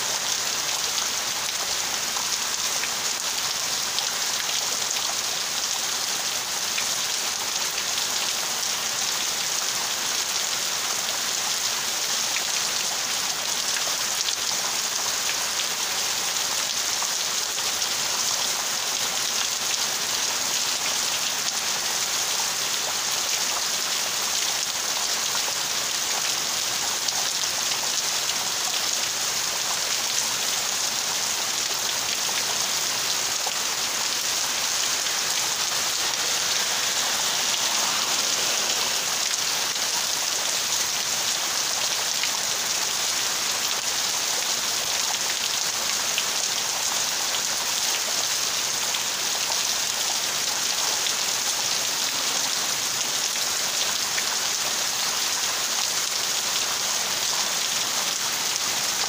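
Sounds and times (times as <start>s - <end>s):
heavy rain on palm fronds: 0.0s - 59.0s.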